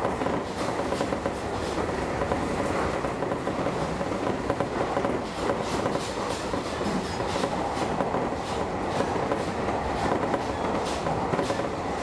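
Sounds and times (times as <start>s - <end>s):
train rumbling along the line: 0.0s - 12.0s.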